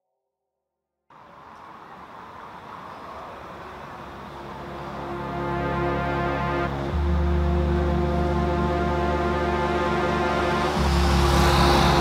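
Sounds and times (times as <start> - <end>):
city street traffic hiss: 1.1 - 12.0
ambient music tone: 1.9 - 12.0.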